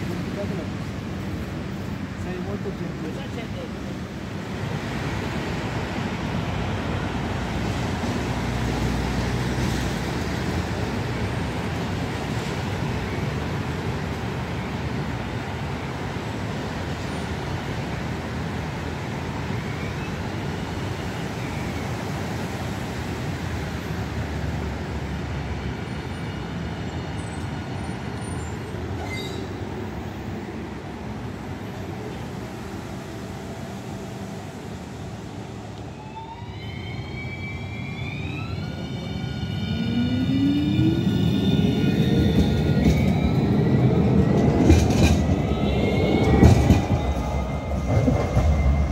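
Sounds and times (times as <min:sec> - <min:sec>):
road traffic noise: 0:00.0 - 0:48.9
tram approaching on rails: 0:00.0 - 0:48.9.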